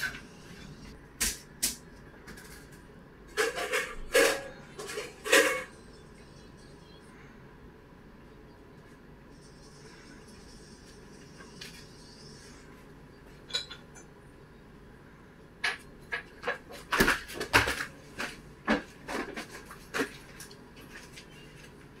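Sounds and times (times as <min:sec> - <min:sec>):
faint steady background noise: 0:00.0 - 0:22.0.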